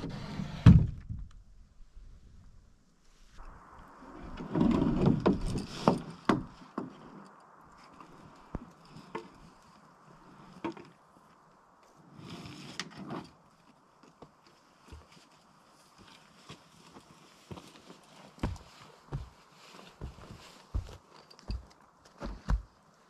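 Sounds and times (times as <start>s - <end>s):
rustle: 1.8s - 23.0s.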